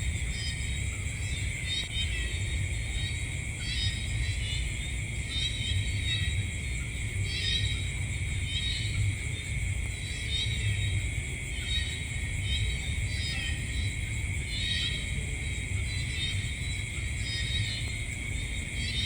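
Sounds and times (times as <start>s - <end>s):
constant low rumble: 0.0s - 19.0s
insect chirps: 0.0s - 19.0s
insects trilling: 0.0s - 19.0s.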